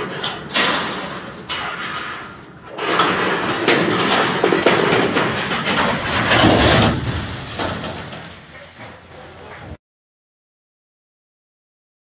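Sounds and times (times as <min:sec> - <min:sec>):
earthquake rumbling and clattering: 0:00.0 - 0:09.8.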